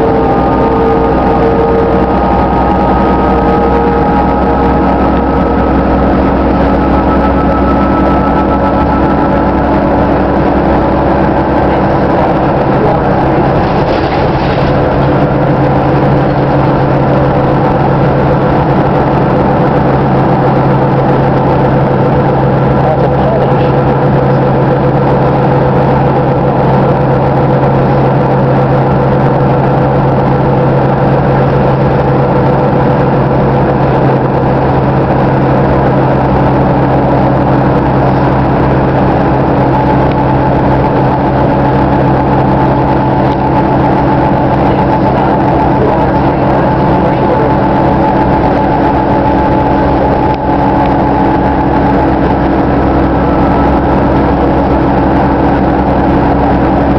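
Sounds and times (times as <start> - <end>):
bus engine drone inside cabin: 0.0 - 56.9.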